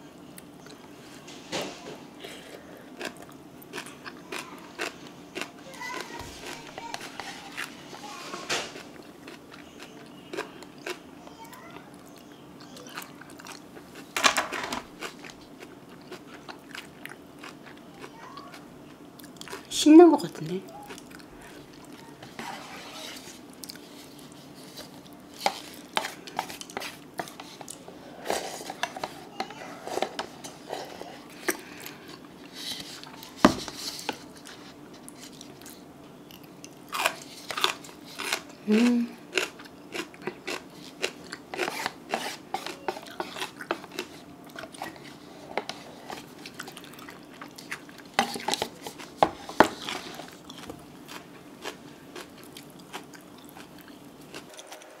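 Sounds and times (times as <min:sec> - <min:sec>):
chewing and crunching: 0:00.3 - 0:19.7, 0:20.7 - 0:55.0.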